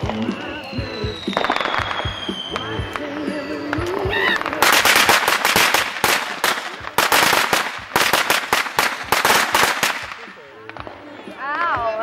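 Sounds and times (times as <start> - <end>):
firecrackers cracking: 0.0 - 12.0.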